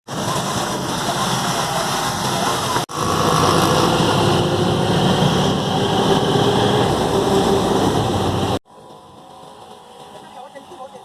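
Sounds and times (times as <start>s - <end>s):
street traffic in rain: 0.1s - 11.0s
vehicle engines running: 0.1s - 11.0s.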